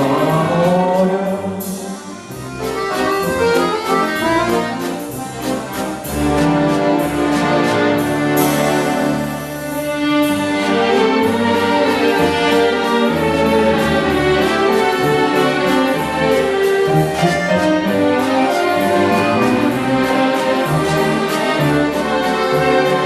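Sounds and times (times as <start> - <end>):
orchestra playing: 0.0 - 23.0.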